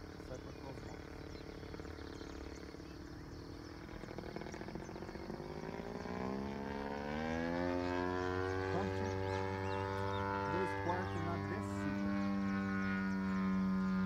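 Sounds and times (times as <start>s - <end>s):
model airplane engine droning: 0.0s - 14.0s.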